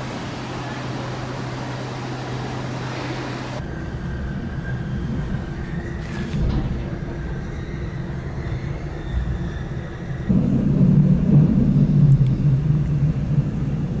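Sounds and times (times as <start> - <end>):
railway car rumbling: 0.0 - 14.0.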